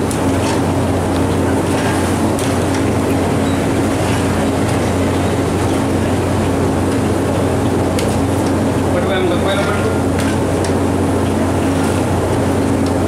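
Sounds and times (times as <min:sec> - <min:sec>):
stove burner roar: 0:00.0 - 0:13.0.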